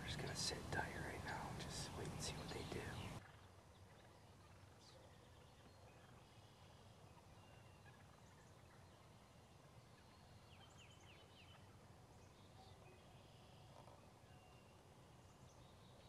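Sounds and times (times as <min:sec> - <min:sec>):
low steady outdoor hiss: 0:00.0 - 0:16.0
turkeys gobbling faintly: 0:00.0 - 0:16.0.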